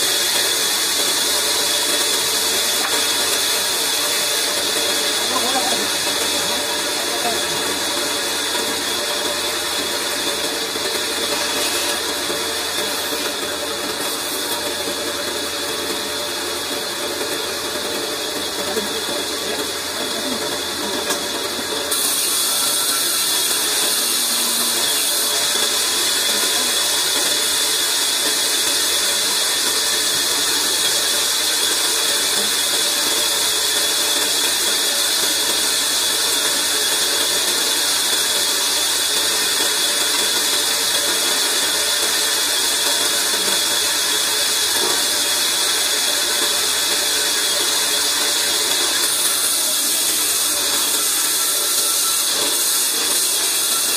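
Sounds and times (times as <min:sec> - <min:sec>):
band saw cutting wood: 0:00.0 - 0:53.9.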